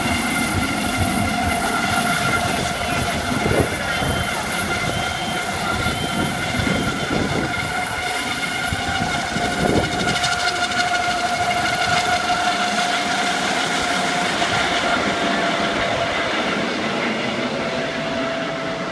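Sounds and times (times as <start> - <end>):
helicopter rotor beat: 0.0 - 18.9
helicopter turbine whine: 0.0 - 18.9.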